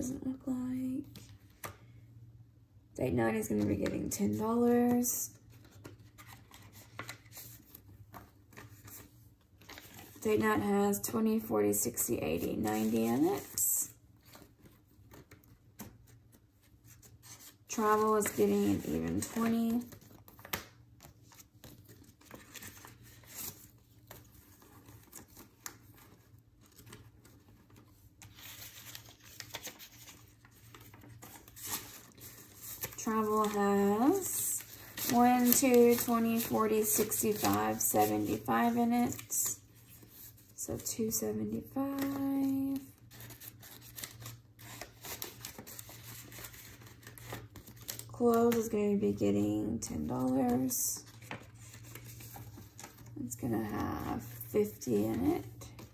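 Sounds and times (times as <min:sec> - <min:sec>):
paper banknotes rustling: 0:03.4 - 0:10.2, 0:14.2 - 0:40.9, 0:41.6 - 0:48.8, 0:49.9 - 0:55.9.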